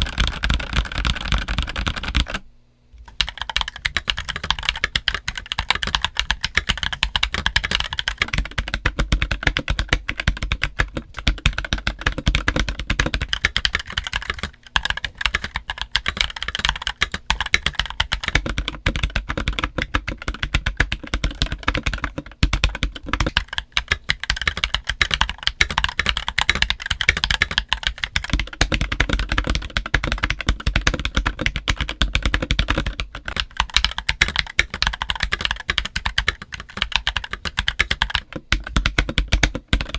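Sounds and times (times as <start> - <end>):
fast mechanical keyboard typing: 0.0 - 2.4, 3.1 - 39.9.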